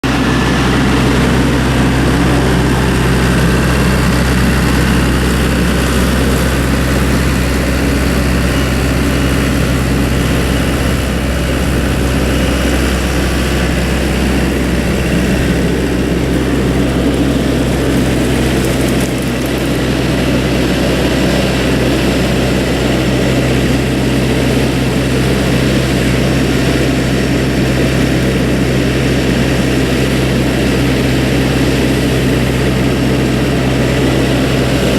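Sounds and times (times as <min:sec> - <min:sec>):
skid steer engine running: 0:00.0 - 0:34.9.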